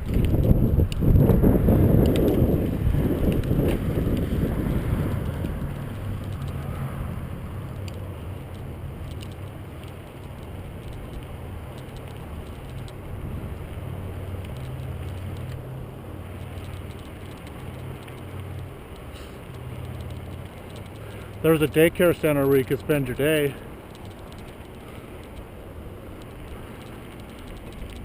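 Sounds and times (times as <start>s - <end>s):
faint ticks: 0.0s - 28.0s
wind and tyres rumbling: 0.0s - 28.0s.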